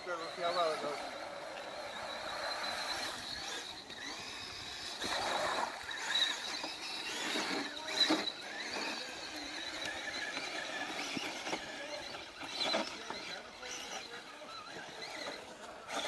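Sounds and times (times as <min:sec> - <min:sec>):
toy truck motor whine: 0:00.0 - 0:16.0.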